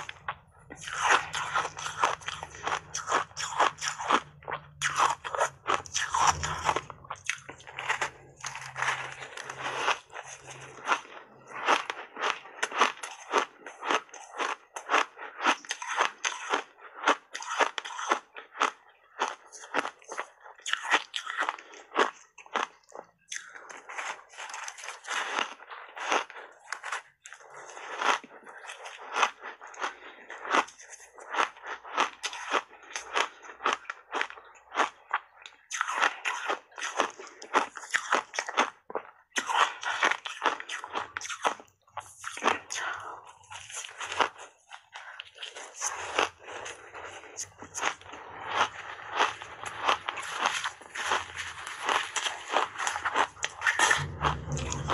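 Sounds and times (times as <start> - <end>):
ice being bitten and chewed: 0.0 - 54.9.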